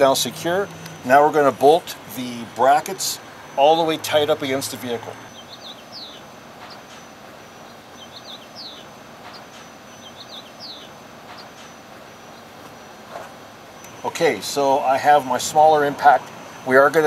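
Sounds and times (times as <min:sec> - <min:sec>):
bird chirping: 0:00.0 - 0:15.9
faint outdoor hiss: 0:00.0 - 0:17.0.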